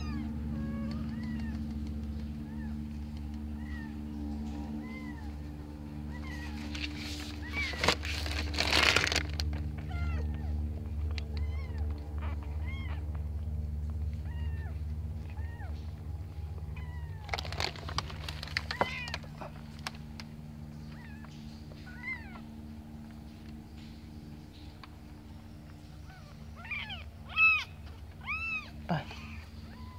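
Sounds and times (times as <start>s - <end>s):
kittens mewing: 0.0s - 5.4s, 6.0s - 20.2s, 20.8s - 22.4s, 26.0s - 29.9s
steady low hum: 0.0s - 29.9s.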